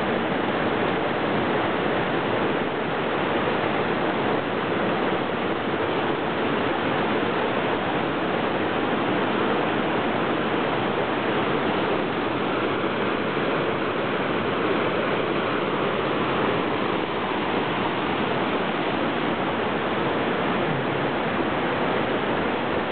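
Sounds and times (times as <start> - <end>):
creek cascading over rocks: 0.0 - 22.9.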